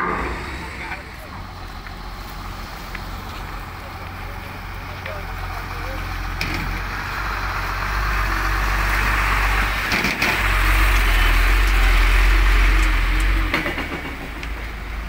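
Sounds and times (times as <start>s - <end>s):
diesel trucks passing: 0.0s - 15.0s.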